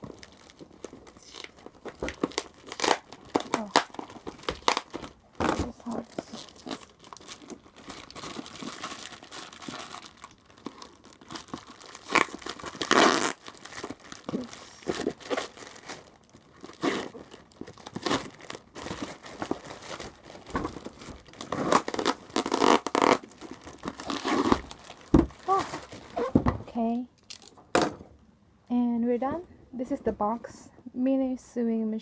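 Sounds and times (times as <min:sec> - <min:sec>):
packaging ripping: 0:00.0 - 0:26.4
packaging rustling: 0:00.0 - 0:26.6.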